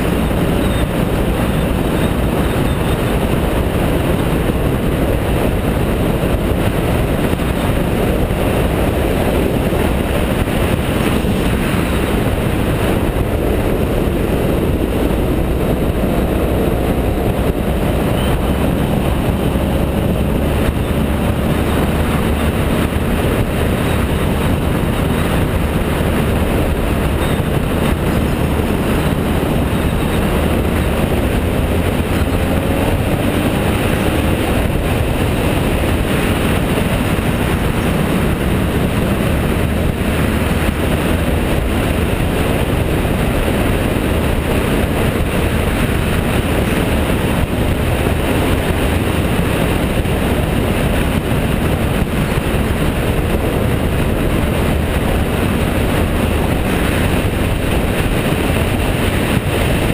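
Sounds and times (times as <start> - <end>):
motorcycle engine and tyre noise: 0.0 - 59.9
wind rushing over microphone: 0.0 - 59.9.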